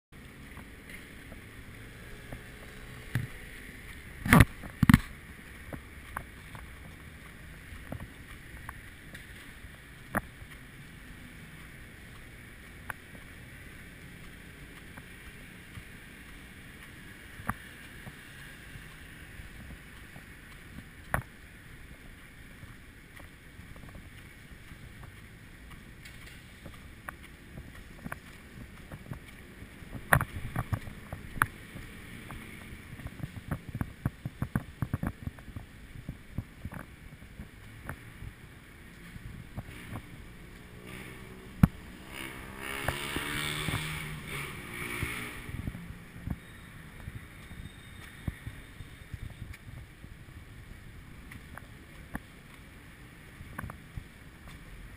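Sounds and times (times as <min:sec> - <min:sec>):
muffled outdoor rumble: 0:00.1 - 0:54.9.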